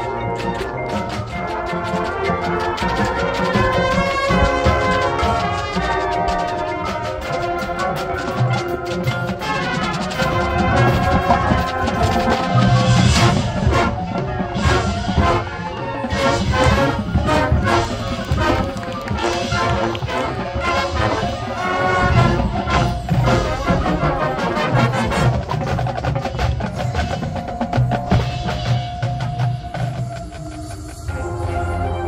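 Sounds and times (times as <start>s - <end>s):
distant marching band playing: 0.0s - 31.0s.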